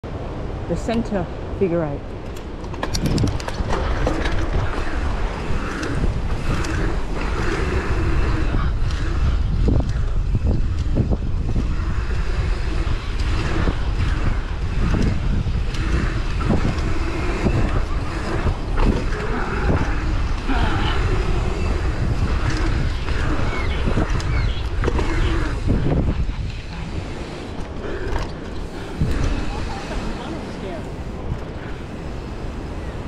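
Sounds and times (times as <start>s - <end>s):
wind buffeting microphone: 0.1s - 33.0s
bike tyres rolling on asphalt: 2.1s - 33.0s.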